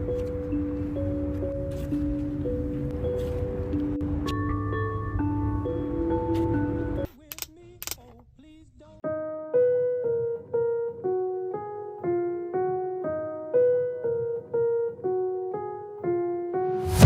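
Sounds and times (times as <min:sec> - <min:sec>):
piano melody: 0:00.0 - 0:07.1, 0:09.0 - 0:17.0.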